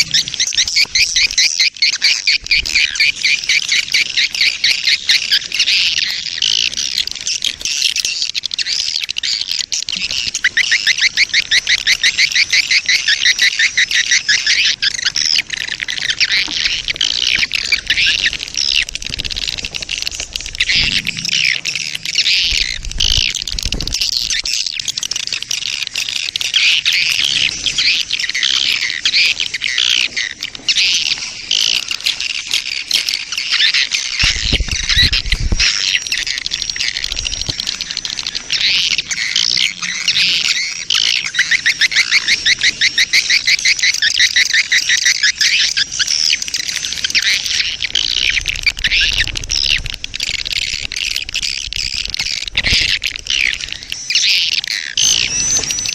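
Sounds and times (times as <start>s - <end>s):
swiftlets twittering chirps: 0.0s - 29.8s, 33.1s - 55.9s.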